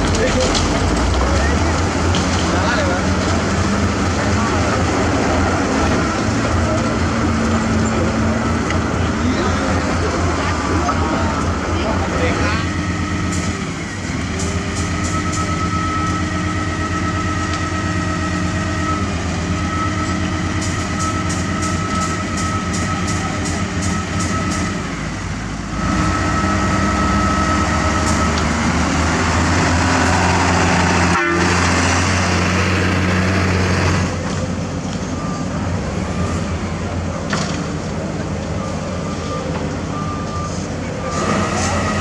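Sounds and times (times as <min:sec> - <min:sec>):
heavy diesel machinery running: 0:00.0 - 0:42.0.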